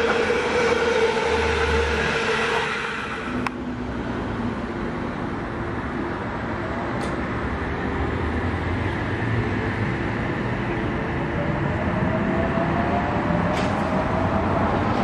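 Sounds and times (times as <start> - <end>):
electric train rumbling: 0.0 - 15.0
faint train whine: 0.0 - 15.0.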